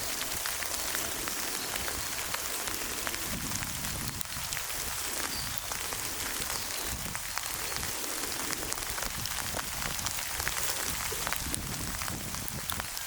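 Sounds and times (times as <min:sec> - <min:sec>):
steady rainfall: 0:00.0 - 0:13.0.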